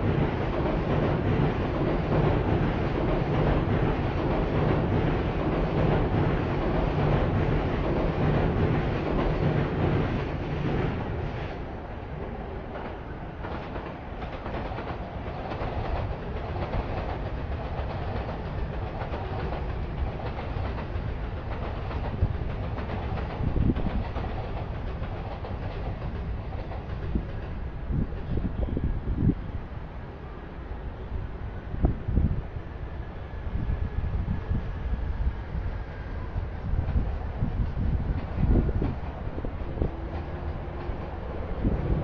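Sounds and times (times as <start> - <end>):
city street noise: 0.0 - 42.0
train rumbling past: 0.0 - 42.0.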